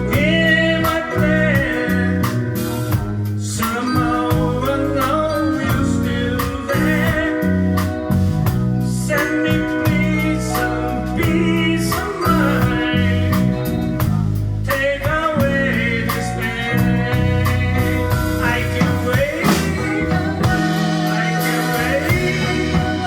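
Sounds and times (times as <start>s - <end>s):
bass guitar: 0.0s - 23.0s
drums with cymbal hits: 0.0s - 23.0s
electric guitar: 0.0s - 23.0s
lead vocal singing: 0.0s - 23.0s.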